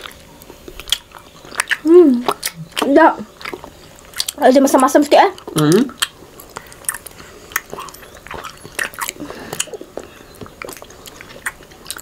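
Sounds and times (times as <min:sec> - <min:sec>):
chewing honeycomb with mouth clicks: 0:00.0 - 0:12.0.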